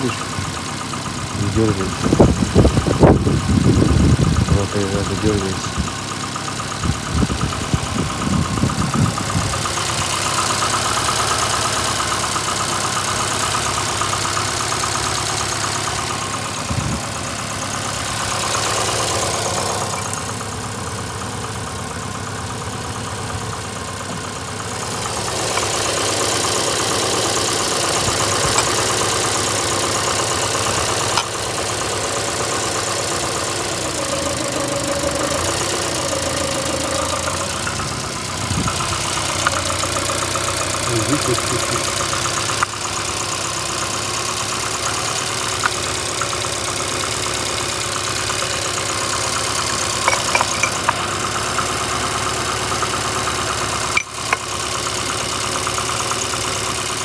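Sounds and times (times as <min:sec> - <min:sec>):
engine idling with rhythmic knock: 0:00.0 - 0:57.0.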